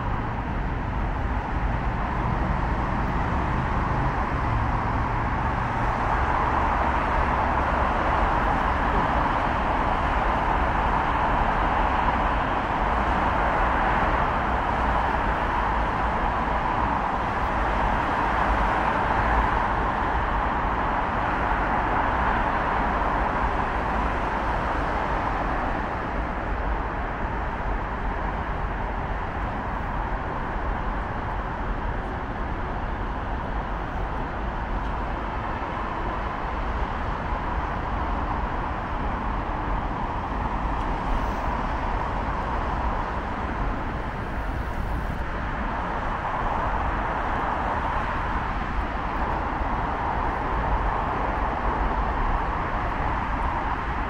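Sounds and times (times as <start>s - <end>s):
passing cars: 0.0s - 54.0s.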